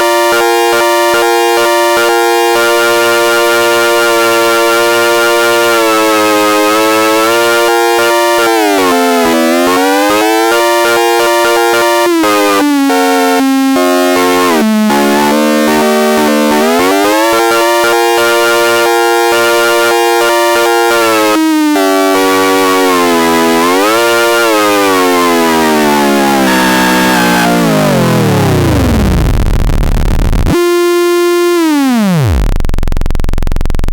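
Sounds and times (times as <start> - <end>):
siren wailing: 0.0 - 29.3, 30.5 - 32.5.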